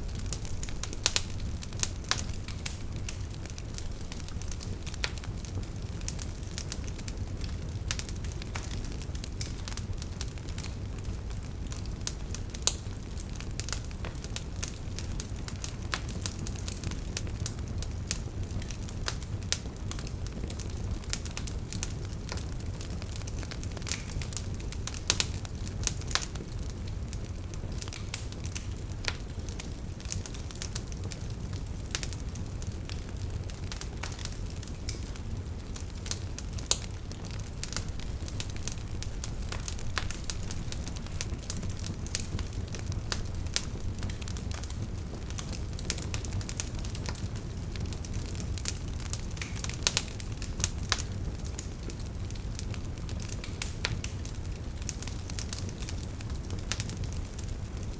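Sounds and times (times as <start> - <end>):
campfire flames rumbling: 0.0 - 57.9
firewood crackling and popping: 0.0 - 57.9.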